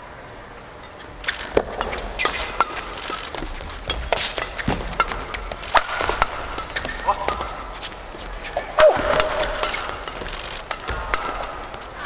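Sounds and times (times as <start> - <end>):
racket striking shuttlecock: 1.0 - 12.0
shoe squeaks on court floor: 1.0 - 12.0
footfalls on court: 1.4 - 12.0.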